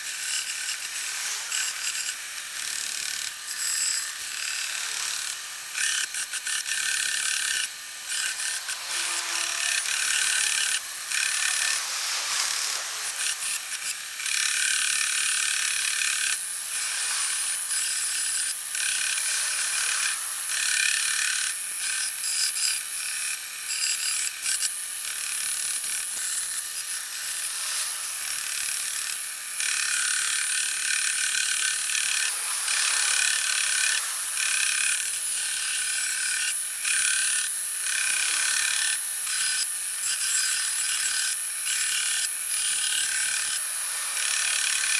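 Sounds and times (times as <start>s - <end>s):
belt sander sanding wood: 0.0s - 44.9s.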